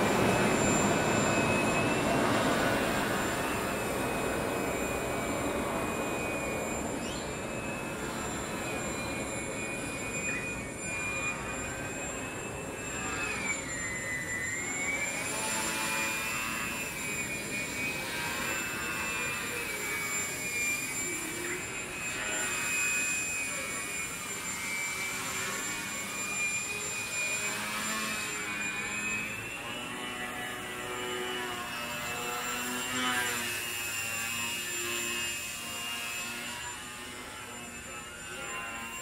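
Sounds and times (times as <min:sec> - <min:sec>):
model plane motor whining: 0:00.0 - 0:39.0.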